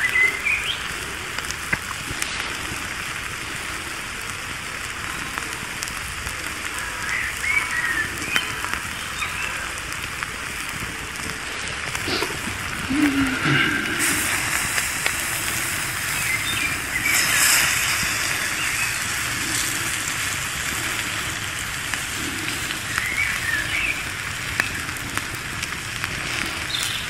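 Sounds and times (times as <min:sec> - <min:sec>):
burning wood crackling: 0:00.0 - 0:27.0
food sizzling on hot slate: 0:00.0 - 0:27.0.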